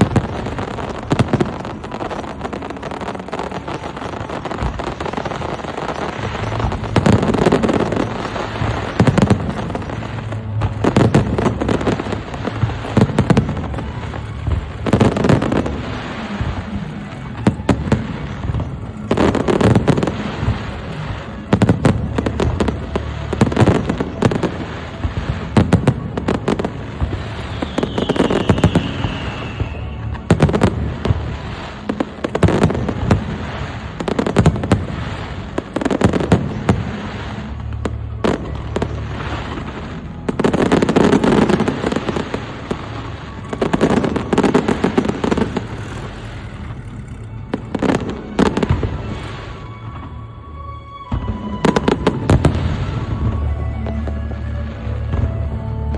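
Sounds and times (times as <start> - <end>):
falling firework whistle: 0.0 - 55.9
firework shells booming: 0.0 - 55.9
fireworks crackling: 0.0 - 55.9.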